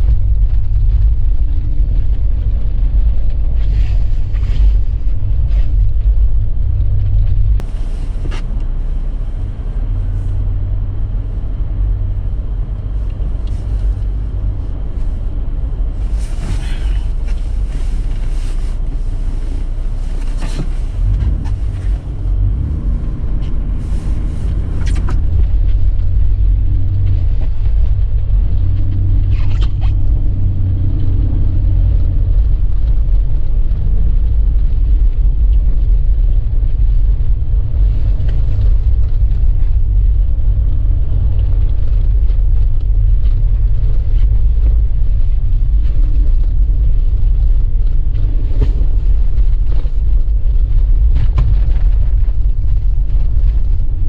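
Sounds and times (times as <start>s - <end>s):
vehicle engine and tyres rumbling: 0.0s - 54.0s.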